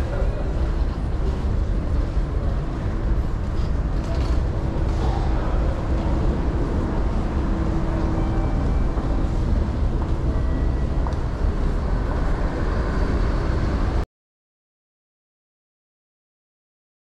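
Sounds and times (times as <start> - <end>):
busy railway station din: 0.0 - 14.0.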